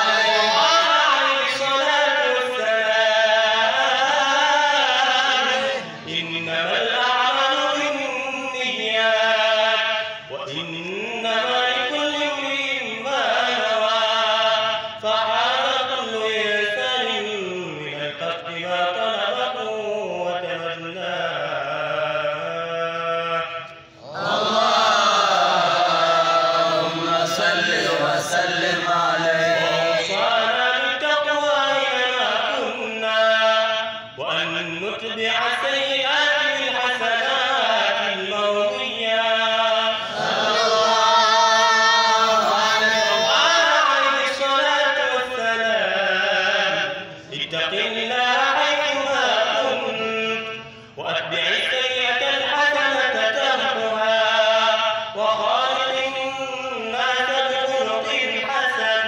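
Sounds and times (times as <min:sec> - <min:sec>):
man chanting: 0:00.0 - 0:59.0.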